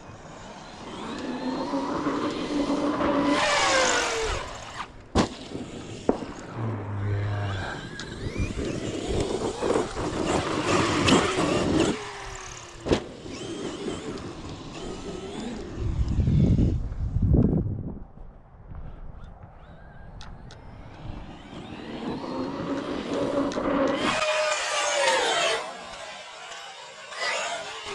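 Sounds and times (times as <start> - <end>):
rc truck motor whine: 0.0 - 16.9, 19.2 - 27.9.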